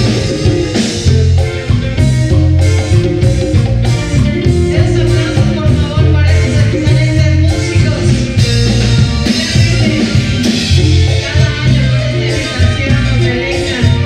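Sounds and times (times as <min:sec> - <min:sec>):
band playing slow romantic music: 0:00.0 - 0:14.0
congas: 0:00.0 - 0:14.0.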